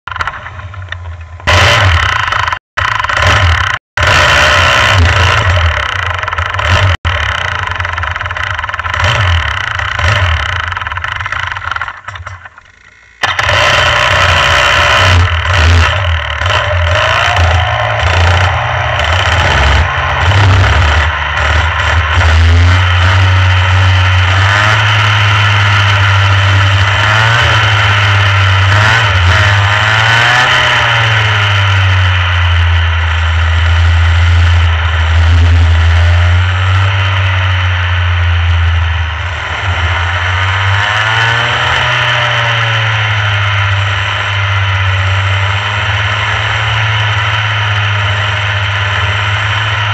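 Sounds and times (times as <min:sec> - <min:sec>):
kart engine revving: 0:00.1 - 0:49.9.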